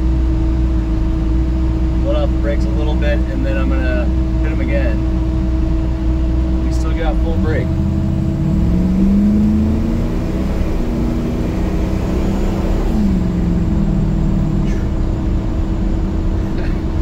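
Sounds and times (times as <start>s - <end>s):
pickup engine accelerating: 0.0s - 17.0s
steady hum: 0.0s - 17.0s.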